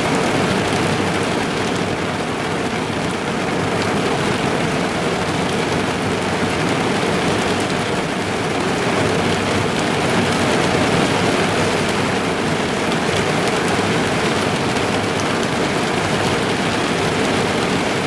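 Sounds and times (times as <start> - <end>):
rain on a car roof: 0.0 - 18.0.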